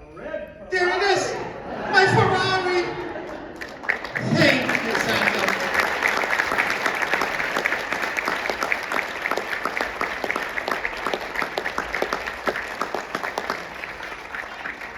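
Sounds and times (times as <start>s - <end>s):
audience applause: 1.8s - 14.9s.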